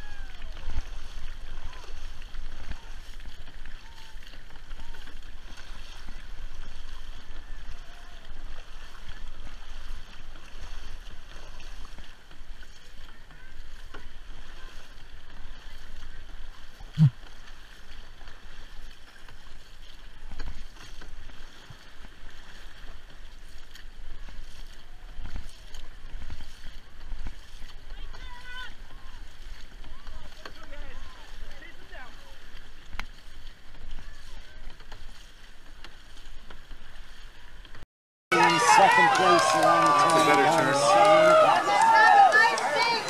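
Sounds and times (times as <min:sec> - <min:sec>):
paddles stroking water: 0:00.0 - 0:43.0
water rushing along hull: 0:00.0 - 0:43.0.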